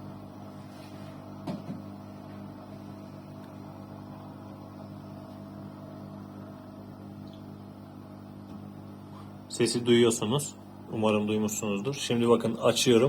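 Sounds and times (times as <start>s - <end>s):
dishwasher low hum: 0.0s - 13.0s.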